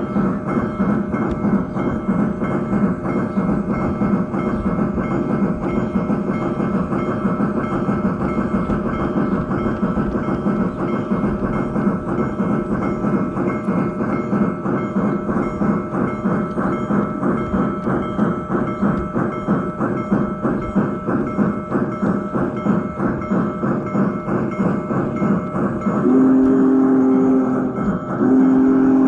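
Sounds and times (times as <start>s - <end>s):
steam locomotive chuffing: 0.0s - 29.0s.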